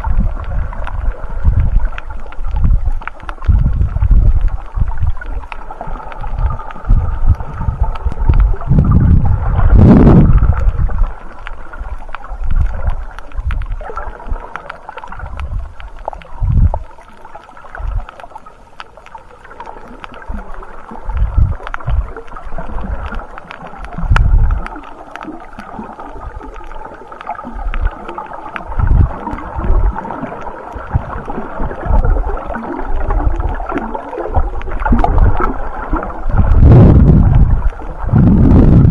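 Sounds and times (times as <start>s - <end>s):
muffled underwater water sloshing: 0.0s - 38.9s.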